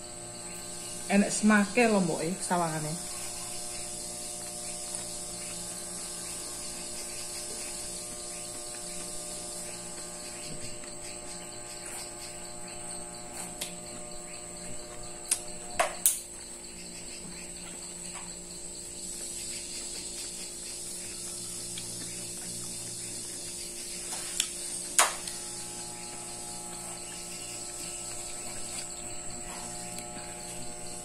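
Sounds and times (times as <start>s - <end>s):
electrical hum with whine: 0.0s - 31.0s.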